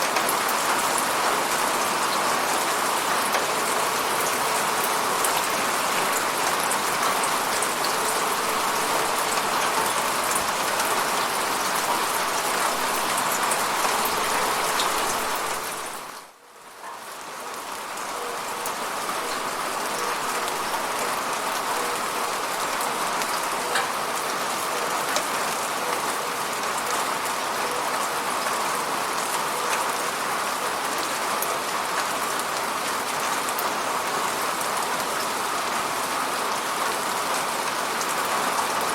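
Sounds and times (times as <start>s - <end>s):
rain hissing on a window: 0.0s - 38.9s.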